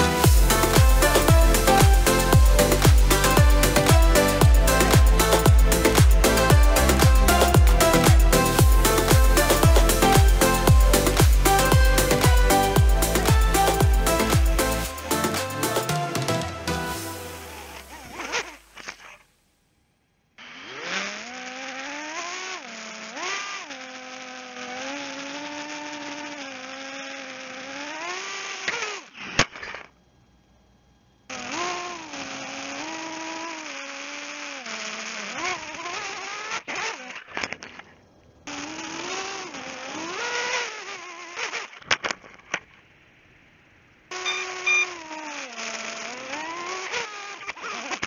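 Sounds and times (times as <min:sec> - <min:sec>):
drone motors whining: 0:00.0 - 0:19.2, 0:20.4 - 0:29.9, 0:31.3 - 0:41.9, 0:44.1 - 0:48.0.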